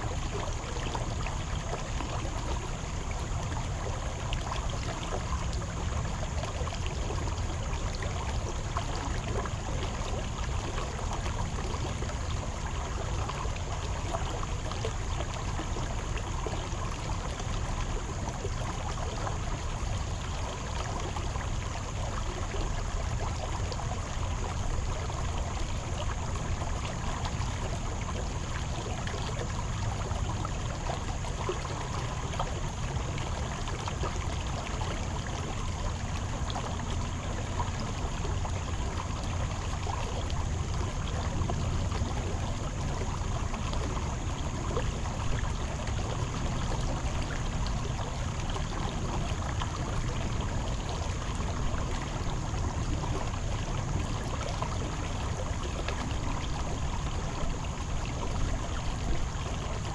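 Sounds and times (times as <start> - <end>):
creek water running over stones: 0.0 - 59.9.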